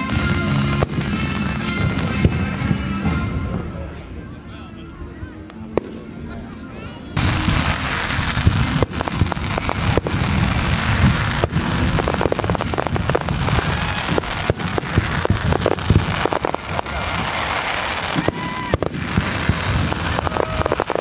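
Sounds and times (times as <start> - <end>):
fireworks bangs and cracks: 0.0 - 4.1, 7.2 - 21.0
fireworks crackle: 0.0 - 6.4, 7.2 - 21.0.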